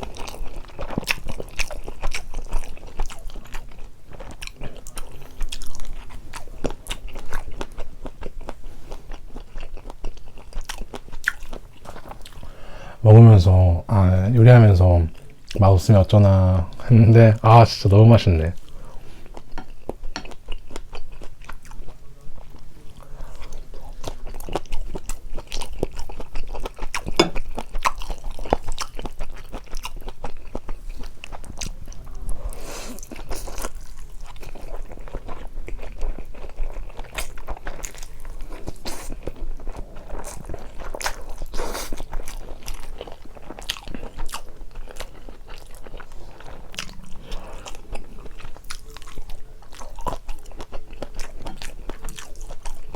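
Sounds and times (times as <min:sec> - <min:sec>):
person chewing with mouth clicks: 0:00.0 - 0:12.5, 0:18.6 - 0:52.9.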